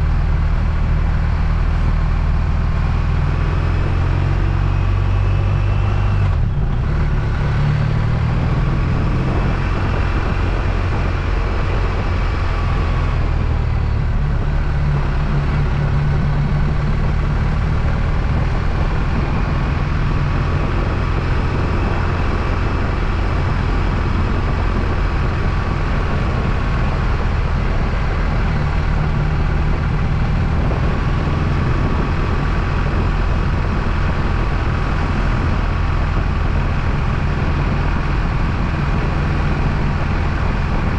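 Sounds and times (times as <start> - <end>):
motorcycle engine running: 0.0 - 40.9
road noise: 0.0 - 40.9.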